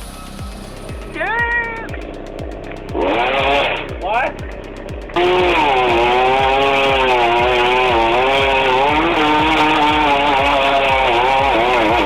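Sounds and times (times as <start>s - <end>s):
low thumping: 0.0s - 12.0s
chainsaw running: 2.0s - 12.0s.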